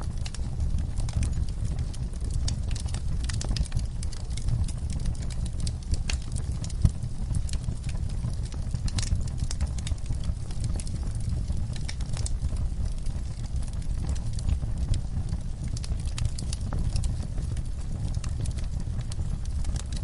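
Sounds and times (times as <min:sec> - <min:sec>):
fire crackles and pops: 0:00.0 - 0:20.0
low rumble of flames: 0:00.0 - 0:20.0.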